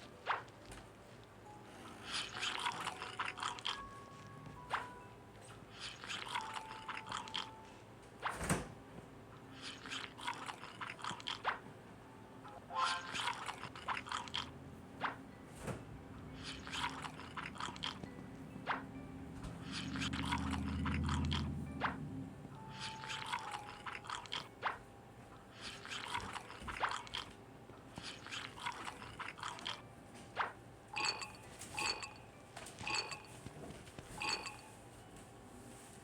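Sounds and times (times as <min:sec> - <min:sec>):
close-miked eating and chewing: 0:00.0 - 0:07.9, 0:09.4 - 0:11.6, 0:12.8 - 0:14.6, 0:16.2 - 0:18.8, 0:19.4 - 0:22.0, 0:22.6 - 0:35.1.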